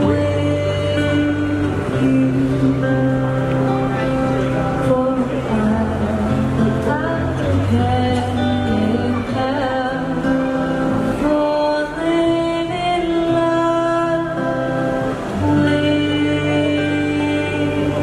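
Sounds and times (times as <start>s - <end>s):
woman singing: 0.0s - 3.7s, 4.7s - 18.0s
guitar: 0.0s - 18.0s.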